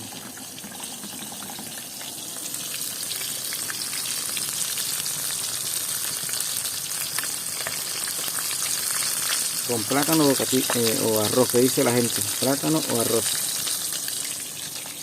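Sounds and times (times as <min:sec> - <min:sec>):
fish sizzling in hot oil: 0:00.0 - 0:15.0
oil crackling and popping: 0:00.0 - 0:15.0.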